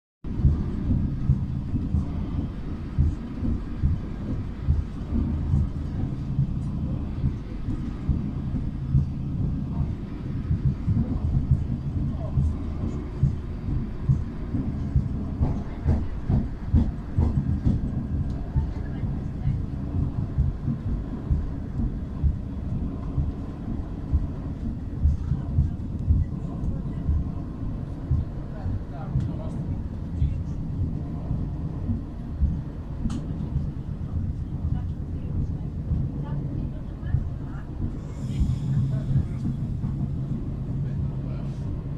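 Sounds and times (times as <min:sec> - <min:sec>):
train wheels clattering on rails: 0:00.3 - 0:41.9.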